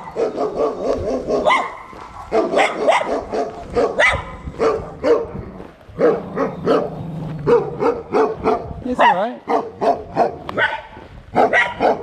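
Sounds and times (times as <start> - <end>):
small dog barking: 0.0 - 5.4, 6.0 - 12.0.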